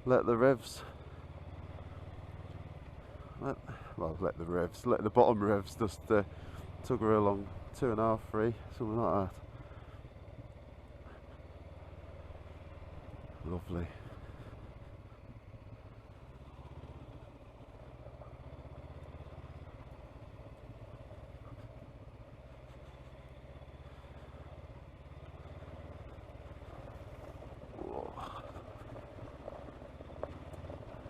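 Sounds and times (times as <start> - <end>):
motorcycle engine at low revs: 0.0 - 31.0.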